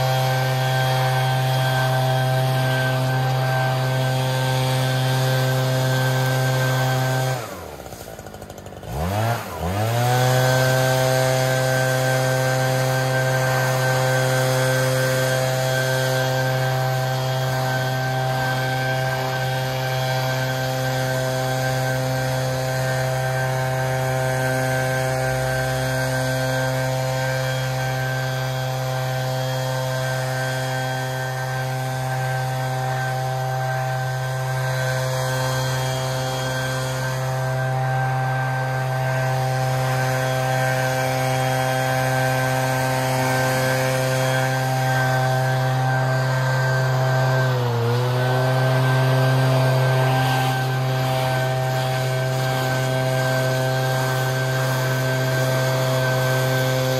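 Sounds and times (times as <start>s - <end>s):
leaf blower engine revving: 0.0s - 56.9s.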